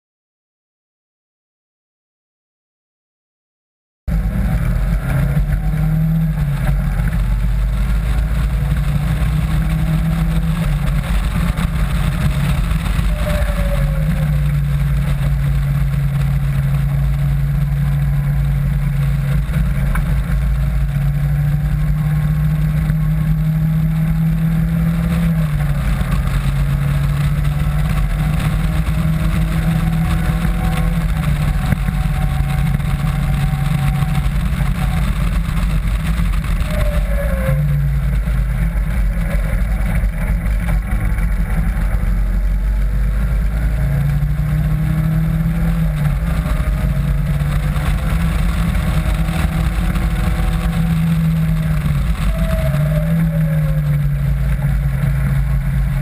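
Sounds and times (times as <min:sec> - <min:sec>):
car engine running hard: 0:04.1 - 0:56.0.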